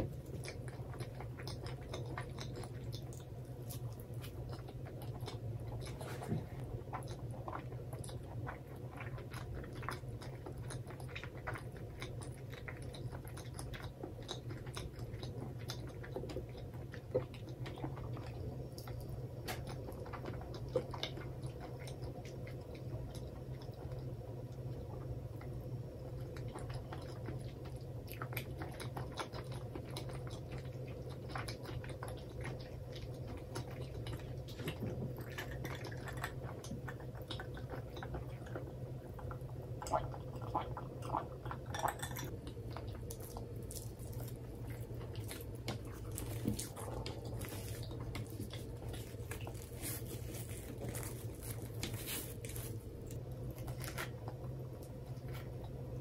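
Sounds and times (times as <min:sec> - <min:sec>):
steady low hum: 0:00.0 - 0:56.0
wet chewing clicks and smacks: 0:00.0 - 0:56.0.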